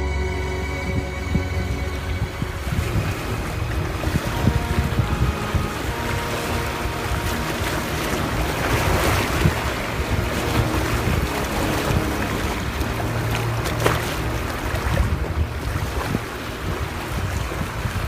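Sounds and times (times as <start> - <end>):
constant low rumble: 0.0 - 18.0
sea waves washing: 0.0 - 18.0
wind buffeting microphone: 0.0 - 18.0.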